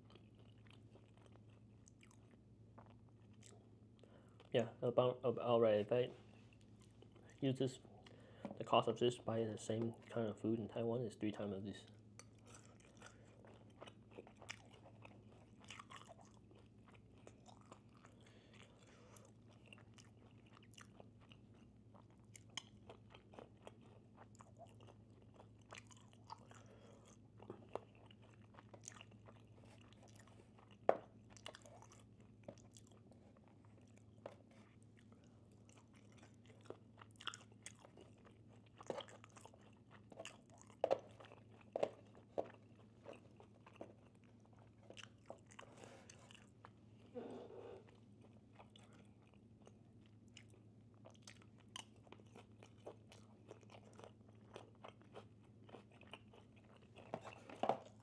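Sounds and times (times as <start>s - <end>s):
chewing and crunching food: 0.0s - 58.0s.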